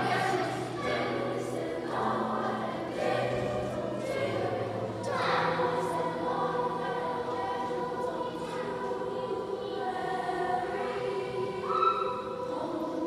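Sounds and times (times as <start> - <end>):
children's chorus singing: 0.0 - 13.0.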